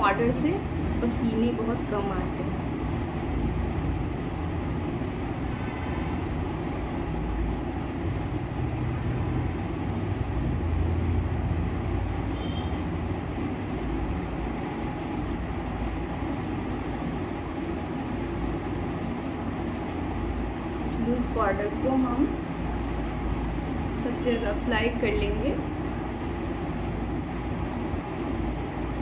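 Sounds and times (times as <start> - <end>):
low rumbling background noise: 0.0 - 29.0.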